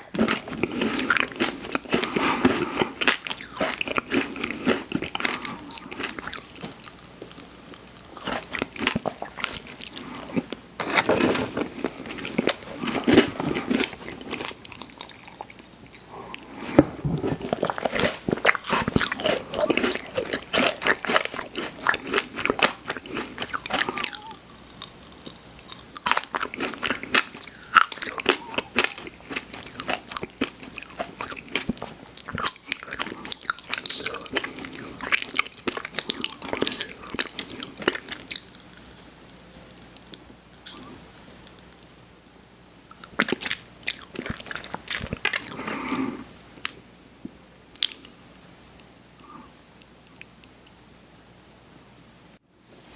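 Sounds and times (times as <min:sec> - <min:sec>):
crunching and chewing cookies: 0:00.0 - 0:50.5.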